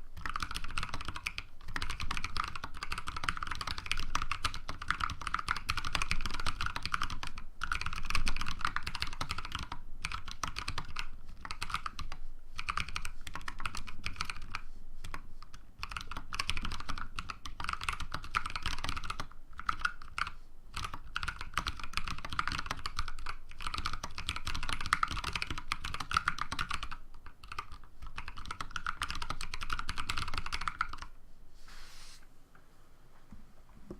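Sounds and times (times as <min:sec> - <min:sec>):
mechanical keyboard typing: 0:00.2 - 0:14.6, 0:15.8 - 0:31.1.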